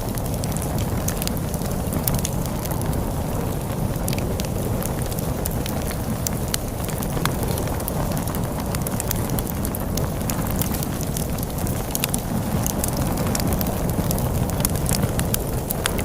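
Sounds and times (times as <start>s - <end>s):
log fire crackling: 0.0s - 16.0s
low rumble of wind: 0.0s - 16.0s.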